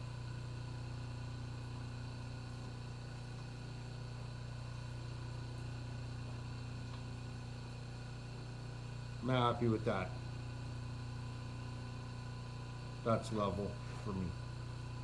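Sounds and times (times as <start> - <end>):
low electric hum: 0.0 - 15.0.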